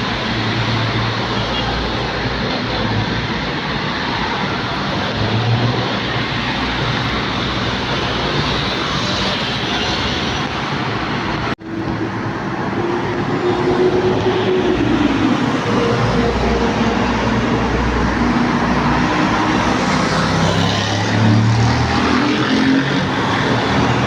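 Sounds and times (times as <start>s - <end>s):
jet engines rushing: 2.0s - 24.0s.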